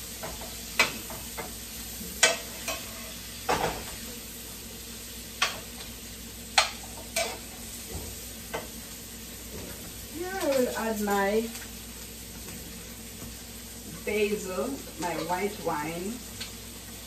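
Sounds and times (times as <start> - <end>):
vegetables sizzling in a skillet: 0.0 - 17.0.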